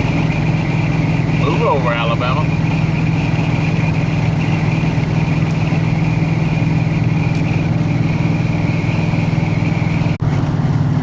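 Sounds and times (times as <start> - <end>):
low engine drone: 0.0 - 11.0
road noise: 0.0 - 11.0.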